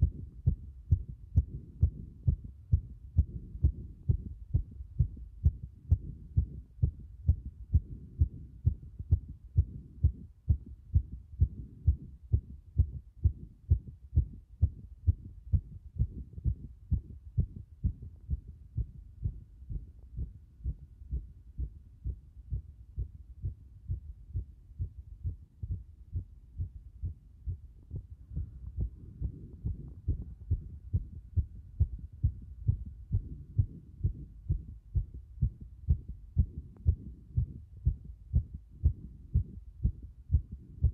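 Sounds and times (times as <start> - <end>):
fast heartbeat thumps: 0.0 - 40.9.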